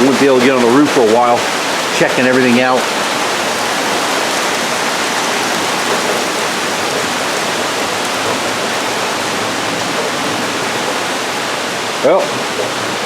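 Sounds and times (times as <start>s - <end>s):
heavy rain pouring: 0.0s - 13.0s
water gushing from gutters: 0.0s - 13.0s.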